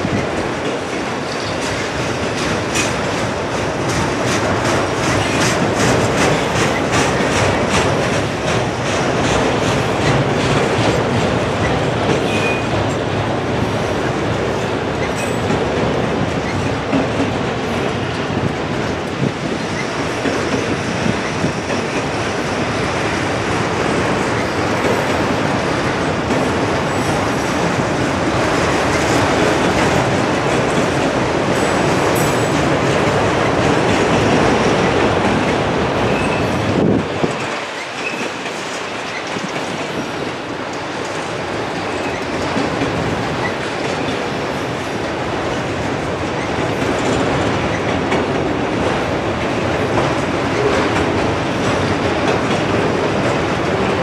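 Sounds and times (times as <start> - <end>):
freight train rumbling and rattling: 0.0 - 54.0.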